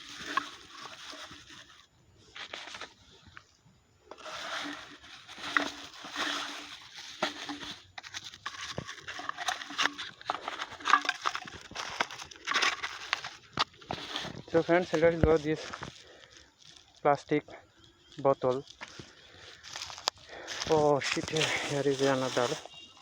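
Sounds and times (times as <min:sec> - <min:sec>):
plastic bag rustling and crinkling: 0:00.0 - 0:23.0.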